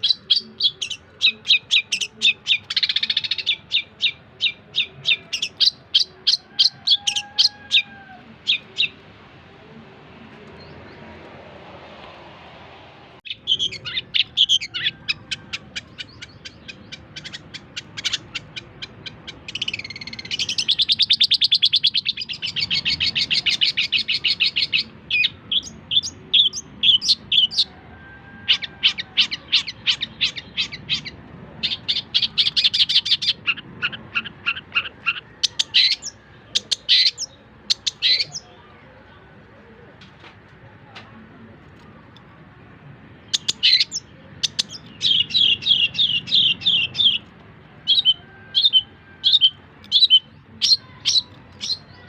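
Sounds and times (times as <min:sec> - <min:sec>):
shrike singing chattering song: 0:00.0 - 0:11.4, 0:13.2 - 0:40.0, 0:41.6 - 0:52.0.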